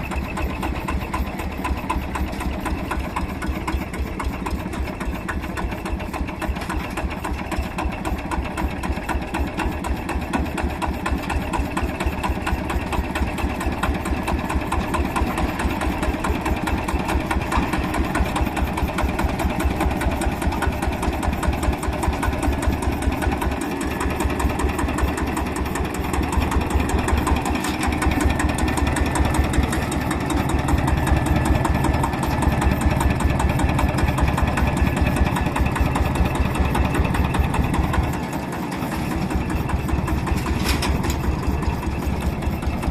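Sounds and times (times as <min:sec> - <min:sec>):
stationary engine running: 0:00.0 - 0:42.9.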